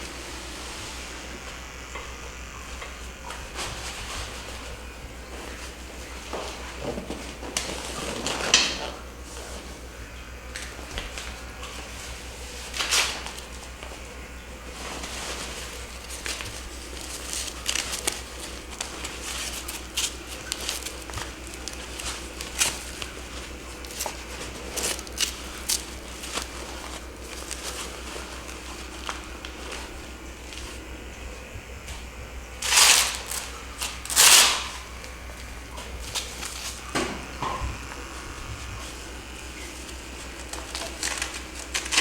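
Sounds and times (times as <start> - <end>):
rustling and crinkling: 0.0 - 42.0
steady low hum: 0.0 - 42.0.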